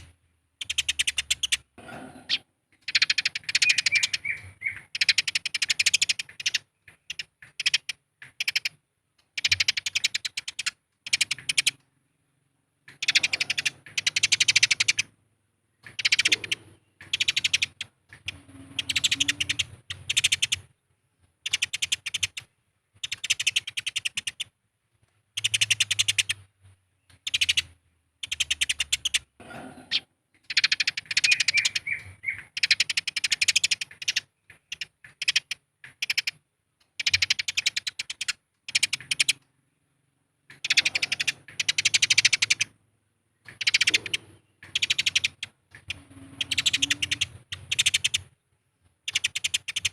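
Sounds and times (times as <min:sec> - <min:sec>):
sparrows chattering harshly: 0:00.0 - 0:11.8, 0:12.8 - 0:20.8, 0:21.4 - 0:24.6, 0:25.3 - 0:36.4, 0:37.0 - 0:39.5, 0:40.5 - 0:48.4, 0:49.0 - 0:49.9.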